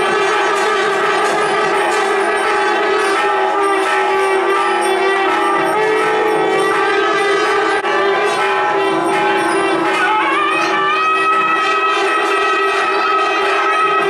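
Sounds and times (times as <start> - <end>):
double-reed pipe melody: 0.0 - 14.0
drum strokes: 0.0 - 14.0.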